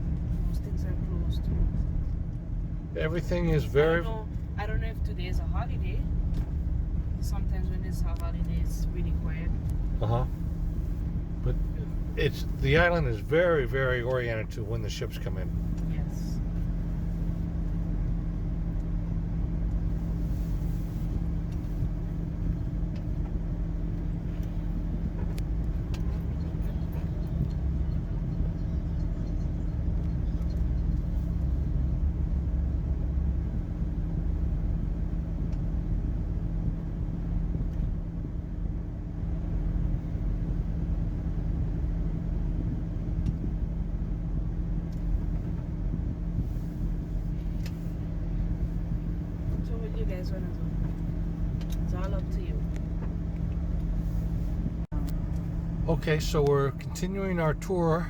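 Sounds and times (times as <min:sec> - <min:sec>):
car rumble and hum: 0:00.0 - 0:58.0.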